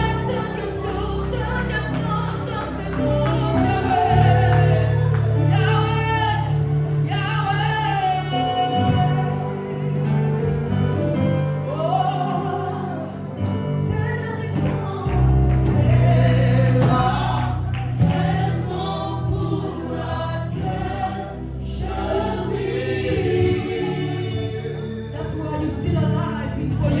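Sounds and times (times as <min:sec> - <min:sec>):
band with steady bass: 0:00.0 - 0:27.0
choir singing gospel music: 0:00.0 - 0:27.0.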